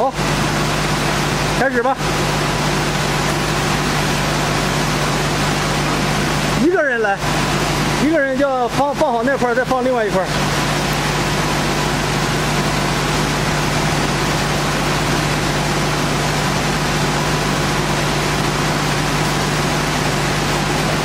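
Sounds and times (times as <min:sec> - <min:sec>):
machinery low hum: 0:00.0 - 0:21.0.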